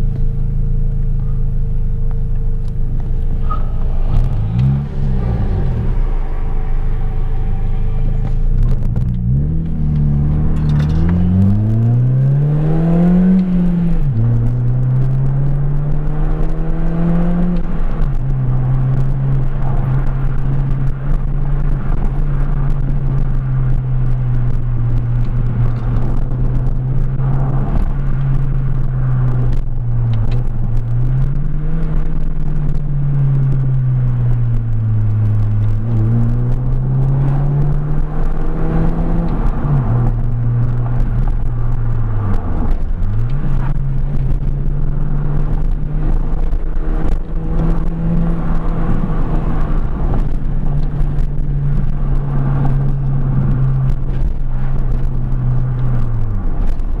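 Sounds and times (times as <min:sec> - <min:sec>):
car engine accelerating: 0:00.0 - 0:57.0
tyre and road rumble: 0:00.0 - 0:57.0.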